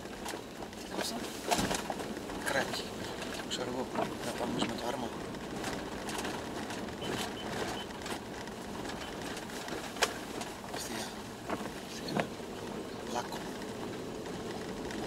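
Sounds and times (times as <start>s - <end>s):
road and engine noise: 0.0s - 15.0s.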